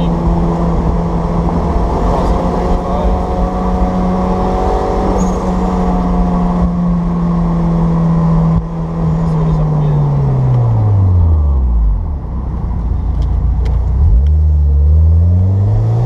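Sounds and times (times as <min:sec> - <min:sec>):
car engine and tyre drone: 0:00.0 - 0:16.0.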